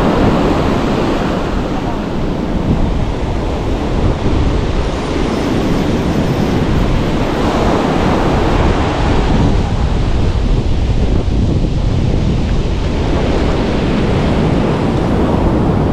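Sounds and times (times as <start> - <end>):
sea surf breaking: 0.0 - 15.9
wind buffeting microphone: 0.0 - 15.9.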